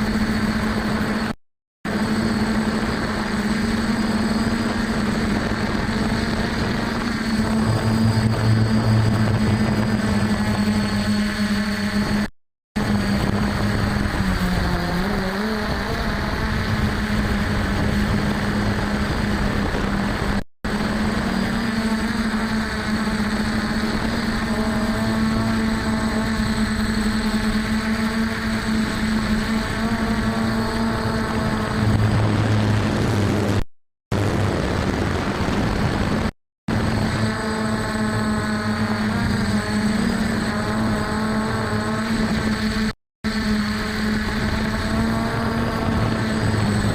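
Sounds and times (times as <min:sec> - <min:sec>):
quadcopter motors humming: 0:00.0 - 0:46.9.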